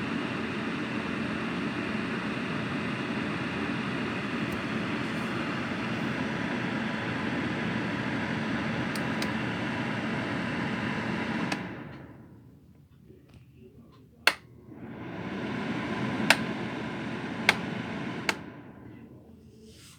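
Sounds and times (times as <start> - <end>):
space heater fan whirring: 0.0 - 19.9.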